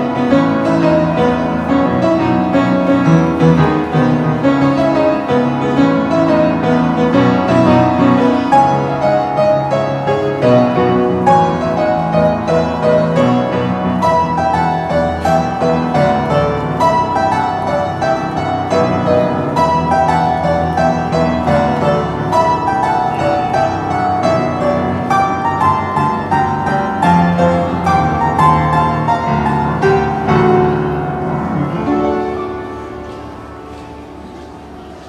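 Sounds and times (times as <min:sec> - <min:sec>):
dull upright piano playing: 0:00.0 - 0:35.0.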